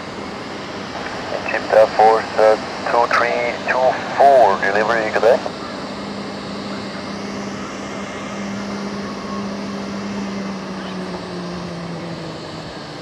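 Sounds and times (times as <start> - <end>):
aircraft engine drone: 0.0 - 13.0
low steady hum: 0.5 - 12.9.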